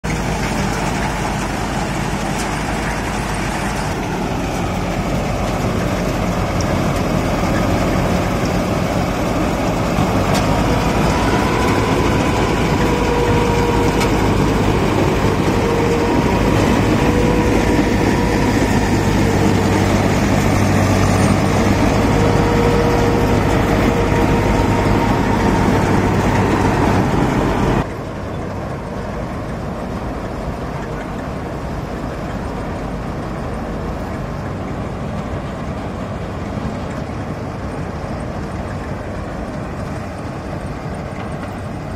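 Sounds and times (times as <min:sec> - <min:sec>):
harvester engine drone: 0:00.0 - 0:41.9
steady high whine: 0:00.1 - 0:34.0.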